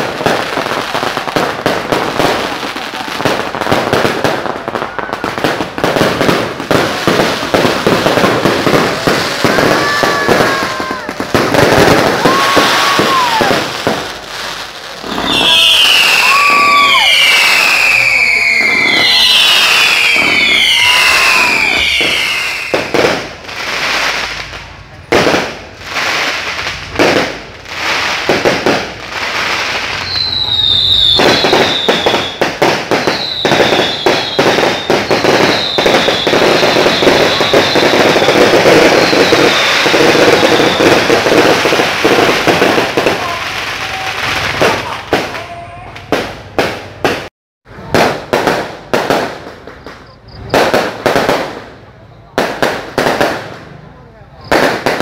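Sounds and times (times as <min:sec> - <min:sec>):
whistling rockets: 0:00.0 - 0:14.2, 0:15.0 - 0:55.0
dense firework crackling: 0:00.0 - 0:55.0
firework bangs: 0:00.0 - 0:55.0.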